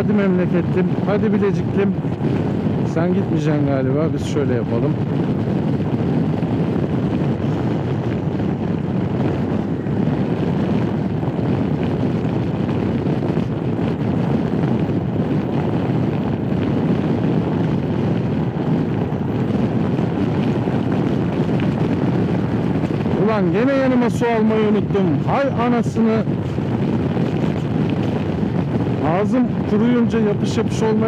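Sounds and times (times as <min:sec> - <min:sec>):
road noise: 0:00.0 - 0:31.0
wind noise on microphone: 0:00.0 - 0:31.0.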